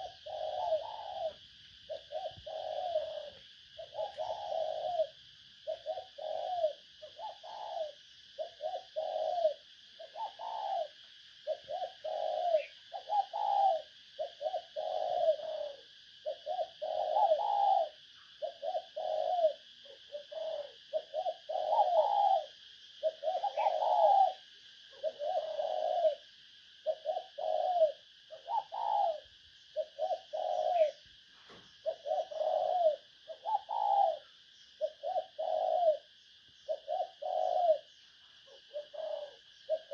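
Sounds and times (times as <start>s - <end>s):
dove cooing: 0.0s - 39.9s
faint high hiss: 0.0s - 39.9s.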